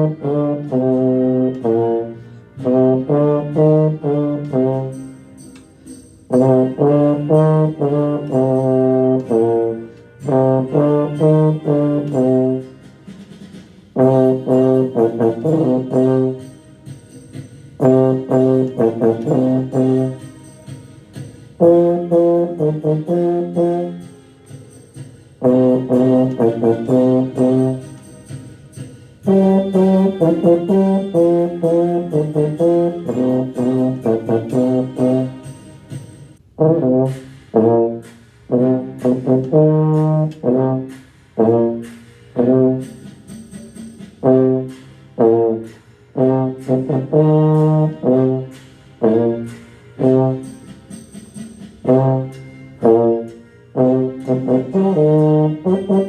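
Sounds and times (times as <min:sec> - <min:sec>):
trombone playing blues: 0:00.0 - 0:51.1, 0:51.7 - 0:56.0.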